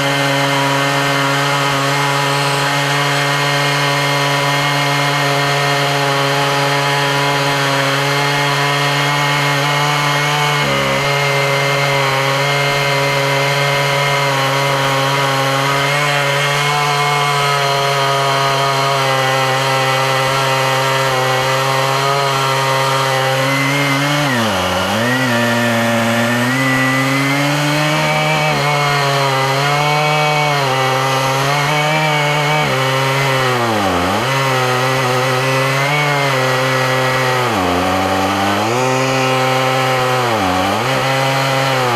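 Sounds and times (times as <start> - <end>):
chainsaw running at full throttle: 0.0 - 41.9.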